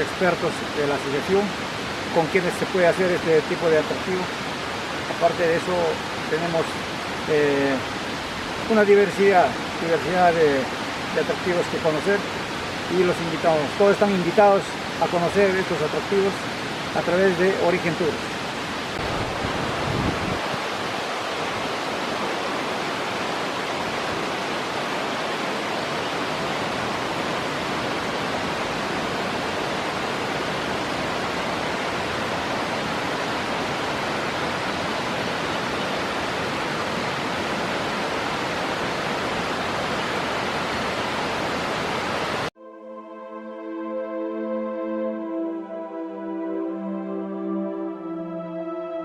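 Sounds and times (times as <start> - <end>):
waterfall rushing: 0.0 - 42.6.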